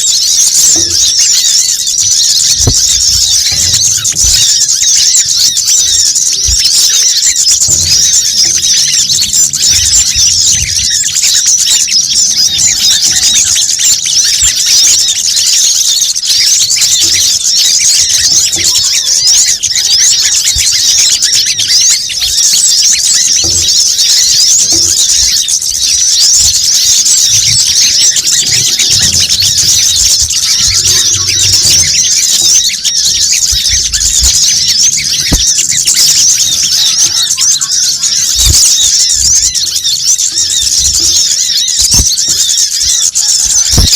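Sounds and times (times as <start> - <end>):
small birds chirping and twittering: 0.0 - 43.9.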